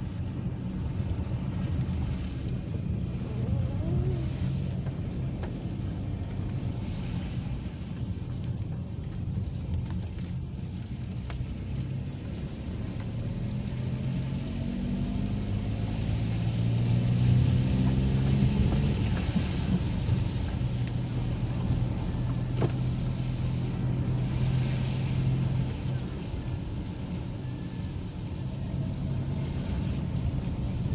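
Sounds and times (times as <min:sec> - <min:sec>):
car engine driving: 0:00.0 - 0:30.9
road noise: 0:00.0 - 0:30.9.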